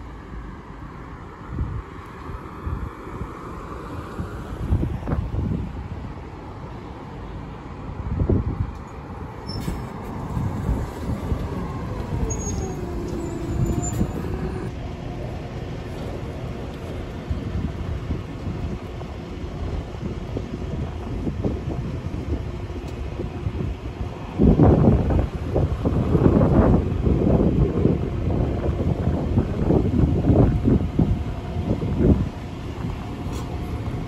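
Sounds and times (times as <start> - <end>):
bus driving past: 0.0 - 34.0
bus engine and tyre rumble: 0.0 - 34.0.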